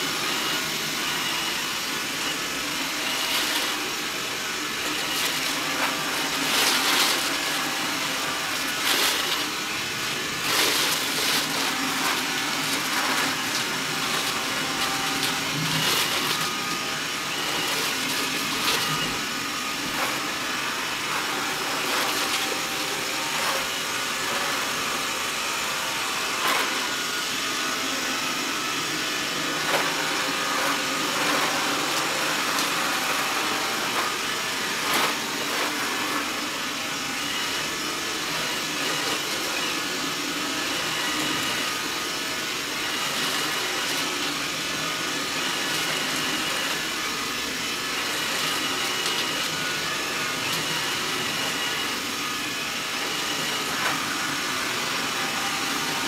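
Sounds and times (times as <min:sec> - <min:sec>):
robot vacuum cleaner running: 0:00.0 - 0:56.0.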